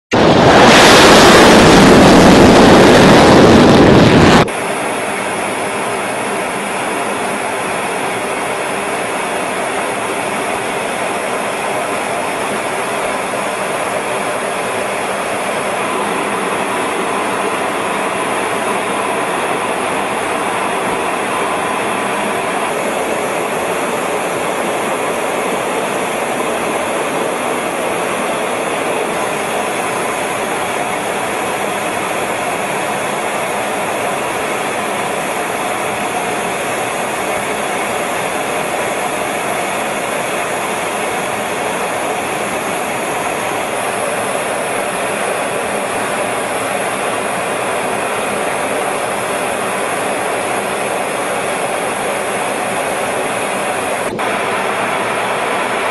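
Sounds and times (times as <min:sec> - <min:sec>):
jet engine and airflow: 0:00.1 - 0:55.9.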